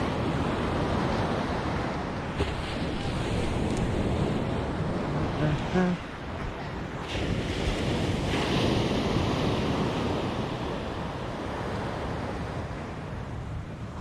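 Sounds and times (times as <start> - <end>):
ocean surf breaking on beach: 0.0 - 14.0
wind rumbling on microphone: 0.0 - 14.0.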